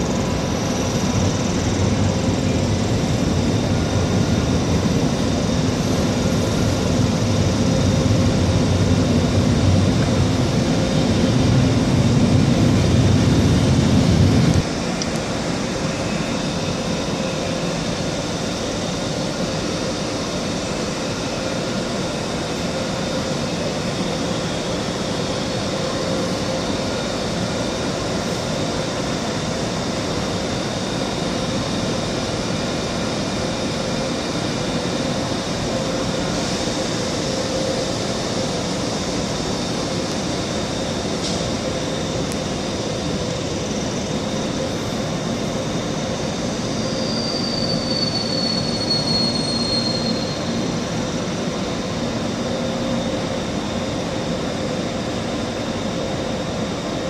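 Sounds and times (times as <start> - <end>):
electric locomotive humming: 0.0 - 57.0
loud low train rumble: 0.0 - 57.0.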